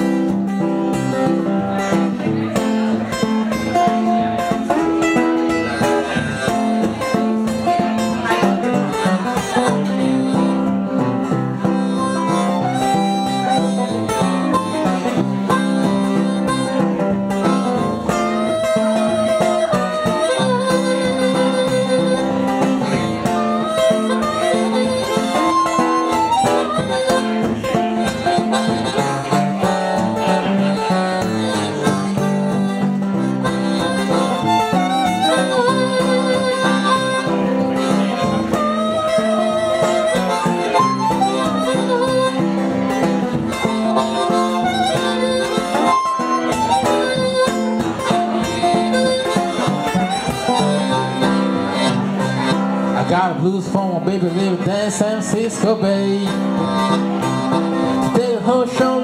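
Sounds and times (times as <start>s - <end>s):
harmonica blues lead: 0.0s - 59.0s
strummed acoustic guitar: 0.0s - 59.0s.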